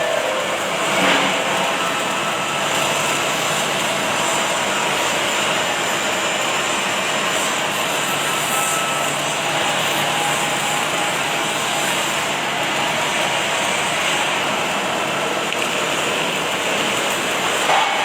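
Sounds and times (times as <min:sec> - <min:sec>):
machinery noise: 0:00.0 - 0:18.0
welding arc hissing and crackling: 0:00.0 - 0:18.0.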